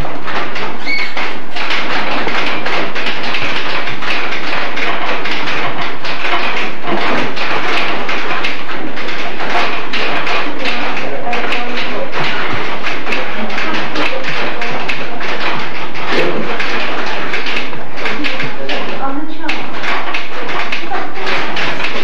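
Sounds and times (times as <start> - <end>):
typewriters clattering: 0.0 - 22.0.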